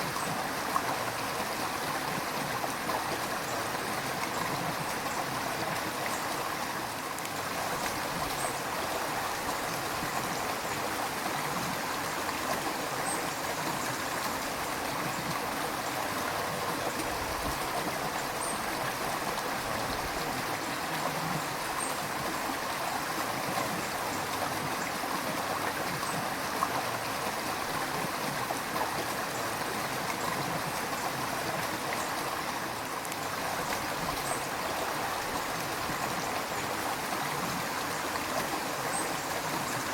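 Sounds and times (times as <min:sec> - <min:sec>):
stream rushing and gurgling: 0:00.0 - 0:39.9.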